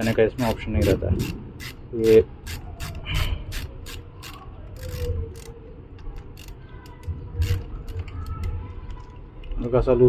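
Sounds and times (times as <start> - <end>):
ratchet wrench clicking: 0.0 - 8.5.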